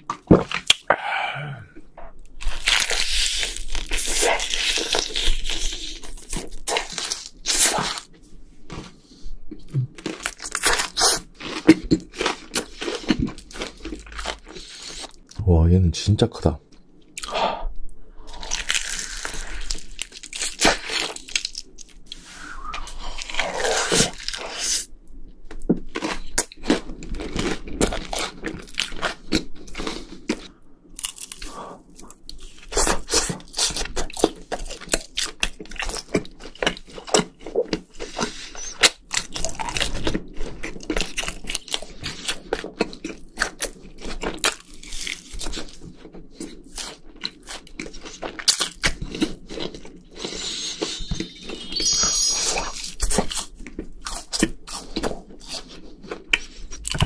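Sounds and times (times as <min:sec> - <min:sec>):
crunching and chewing crispy food: 0:00.0 - 0:00.9, 0:01.7 - 0:15.4, 0:18.2 - 0:51.5, 0:52.8 - 0:57.0.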